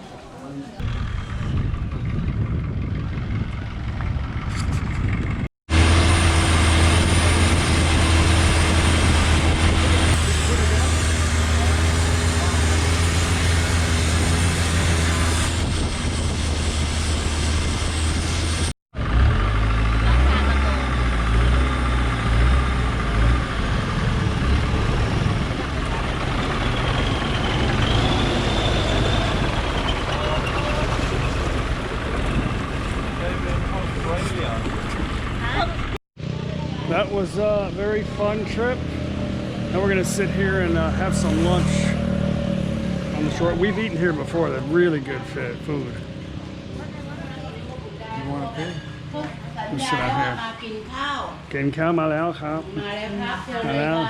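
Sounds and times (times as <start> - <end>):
boat engine running: 0.8 - 51.1.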